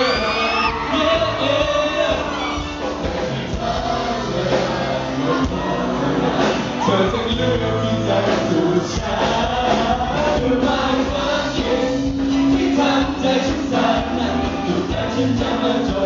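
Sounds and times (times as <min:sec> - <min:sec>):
live pop music: 0:00.0 - 0:16.0
voices singing held notes: 0:00.0 - 0:16.0.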